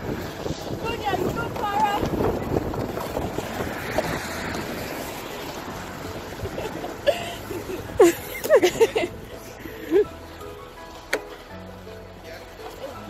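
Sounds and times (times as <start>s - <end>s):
car tyres hissing on wet road: 0.0s - 10.8s.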